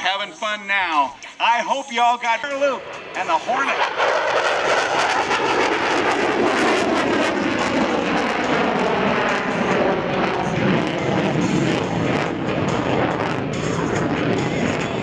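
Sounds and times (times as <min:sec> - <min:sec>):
fighter jet flying past: 0:02.4 - 0:15.0.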